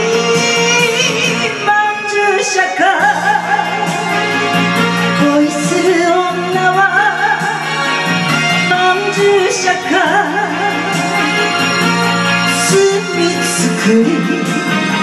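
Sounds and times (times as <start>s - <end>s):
karaoke backing track: 0.0s - 15.0s
woman singing into a microphone: 0.0s - 15.0s.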